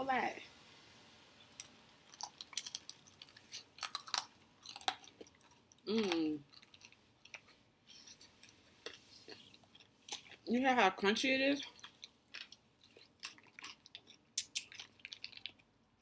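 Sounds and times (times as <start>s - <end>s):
crunchy chewing: 1.5s - 10.5s, 11.6s - 16.0s.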